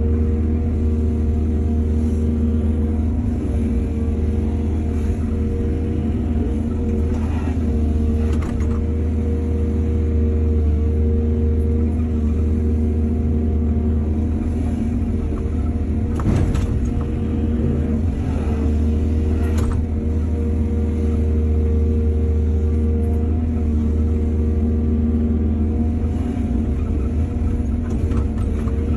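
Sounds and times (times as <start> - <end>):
diesel engine droning: 0.0 - 28.9.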